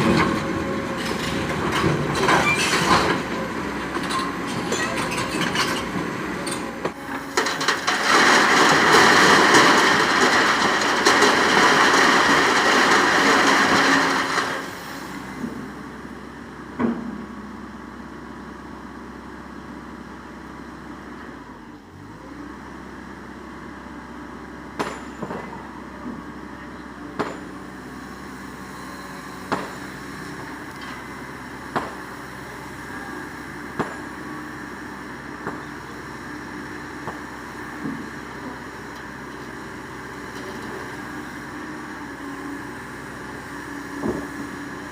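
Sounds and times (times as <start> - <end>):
excavator running: 0.0 - 44.9.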